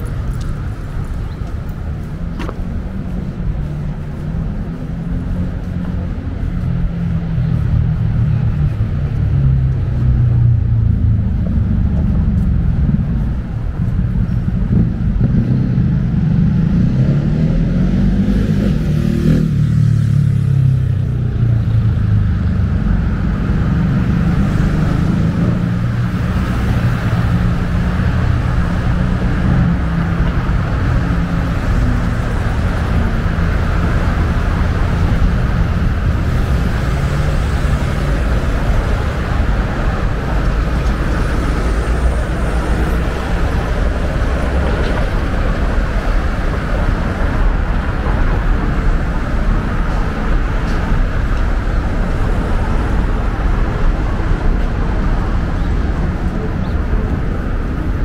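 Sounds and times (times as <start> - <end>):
traffic rumble: 0.0 - 58.0
vehicle engine revving: 2.2 - 58.0.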